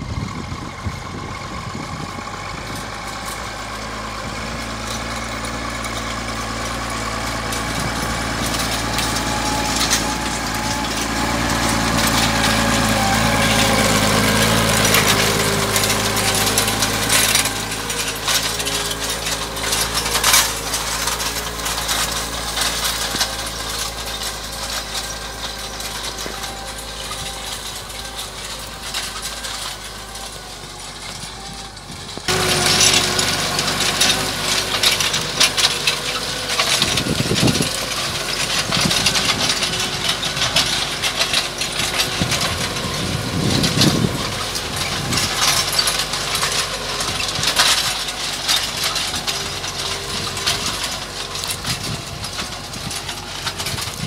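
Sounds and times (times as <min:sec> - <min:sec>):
cultivator clattering: 0:00.0 - 0:54.0
tractor diesel engine running: 0:00.0 - 0:54.0.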